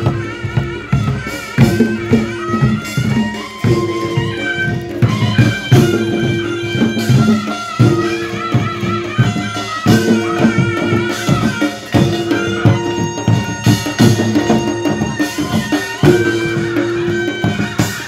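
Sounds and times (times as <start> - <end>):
folk drums beating: 0.0 - 18.0
held melody notes: 0.0 - 18.0.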